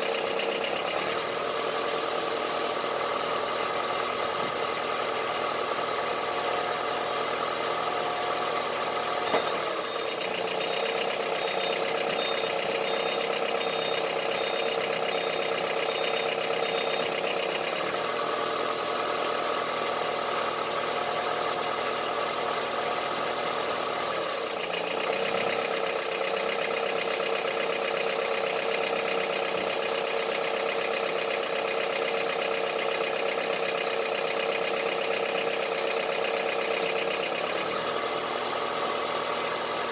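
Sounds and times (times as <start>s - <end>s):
petrol engine idling with knock: 0.0s - 39.9s.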